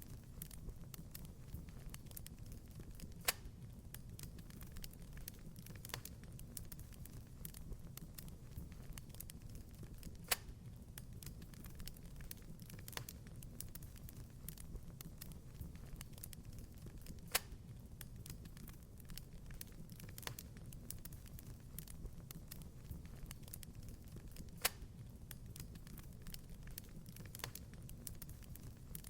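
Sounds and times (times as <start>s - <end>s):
wood fire crackling: 0.0s - 29.0s
loud pops from fire: 0.1s - 29.0s.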